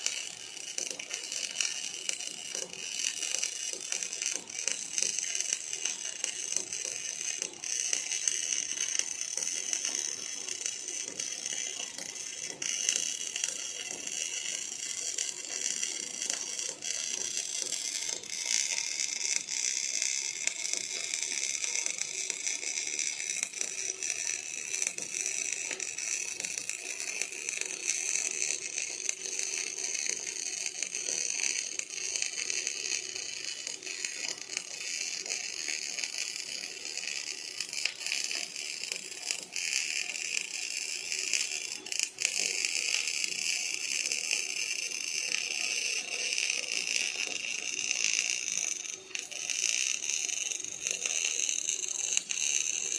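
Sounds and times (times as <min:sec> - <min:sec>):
welding arc crackling: 0:00.0 - 0:52.9.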